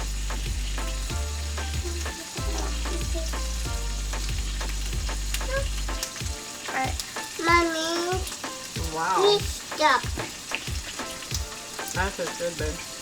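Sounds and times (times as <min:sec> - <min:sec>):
background music with steady beat: 0:00.0 - 0:13.0
steady hiss: 0:00.0 - 0:13.0.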